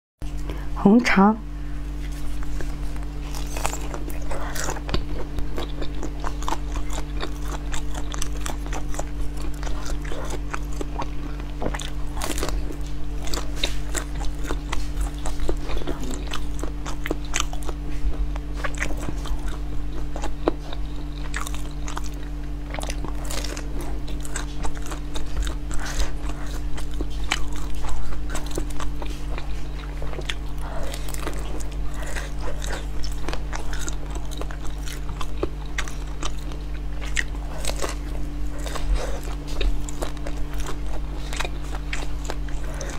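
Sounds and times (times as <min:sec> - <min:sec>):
steady low hum: 0:00.2 - 0:42.9
biting and chewing: 0:01.9 - 0:42.9.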